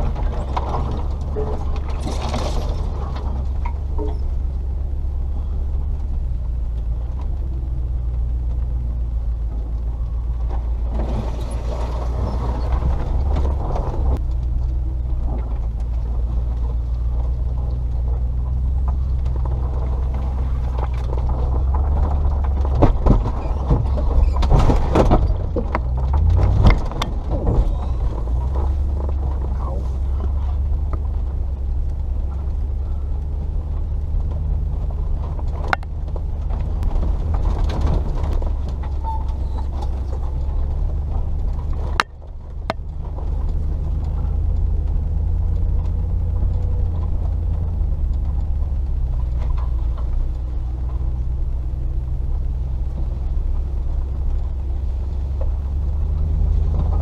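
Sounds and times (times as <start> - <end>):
car engine running at low revs: 0.0 - 57.0.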